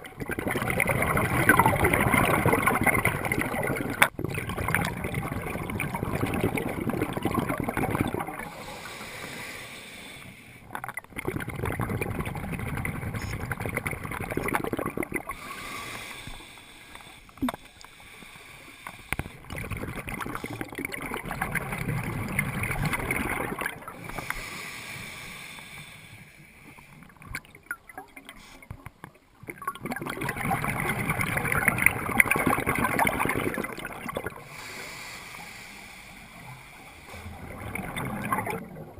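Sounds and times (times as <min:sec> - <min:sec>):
underwater exhale bubbles: 0:00.0 - 0:38.9.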